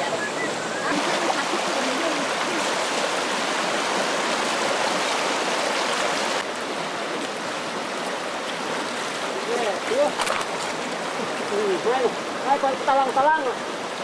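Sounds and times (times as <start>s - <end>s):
river rushing over rapids: 0.0s - 14.0s.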